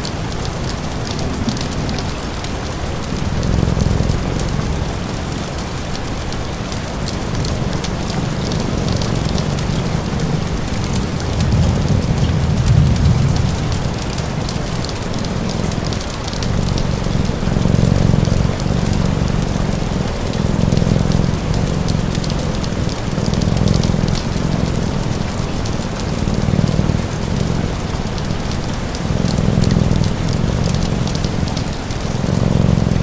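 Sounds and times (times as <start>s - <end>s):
fire crackling: 0.0s - 33.0s
steady rain: 0.0s - 33.0s
cat purring: 0.2s - 33.0s.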